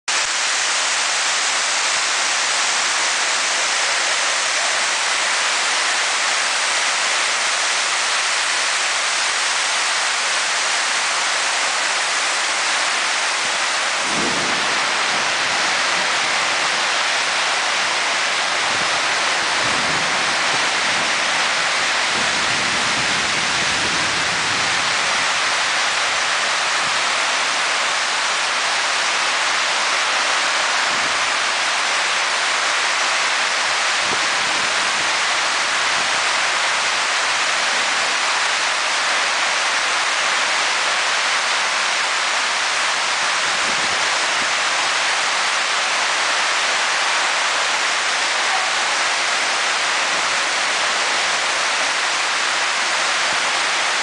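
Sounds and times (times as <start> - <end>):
heavy rain on pavement: 0.1 - 54.0.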